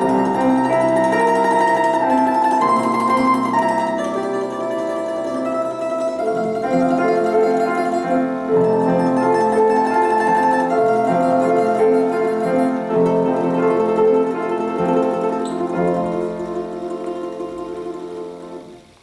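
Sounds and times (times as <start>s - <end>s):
domra playing slow melody: 0.0s - 19.0s
piano accompaniment: 0.0s - 19.0s.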